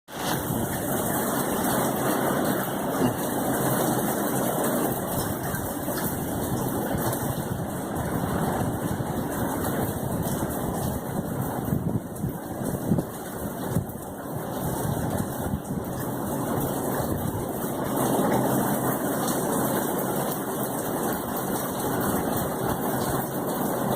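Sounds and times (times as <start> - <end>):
steady heavy rain: 0.1 - 23.9.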